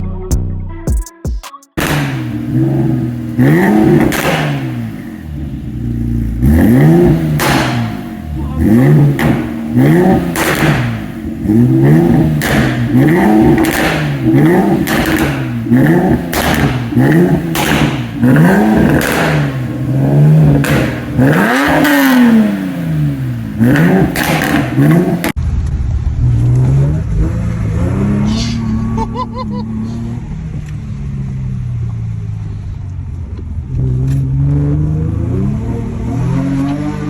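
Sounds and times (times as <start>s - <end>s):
car engine revving with pops: 1.8s - 31.0s, 32.8s - 37.0s.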